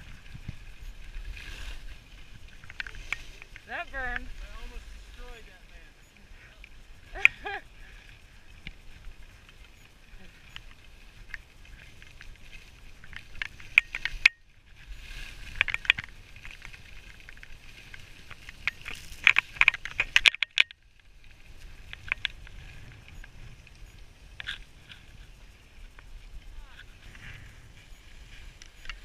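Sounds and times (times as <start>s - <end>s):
skis scraping on snow: 0.0s - 6.8s, 7.8s - 20.2s, 21.2s - 29.0s.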